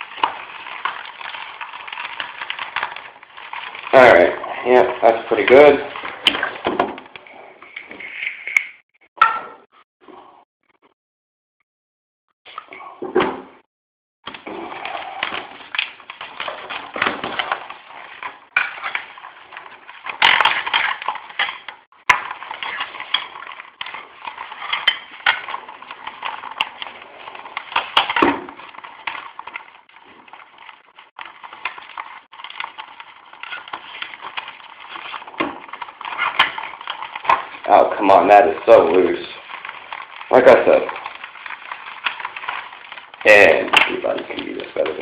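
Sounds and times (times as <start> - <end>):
cord scraping on plastic helmet: 0.0 - 8.6, 14.3 - 45.0.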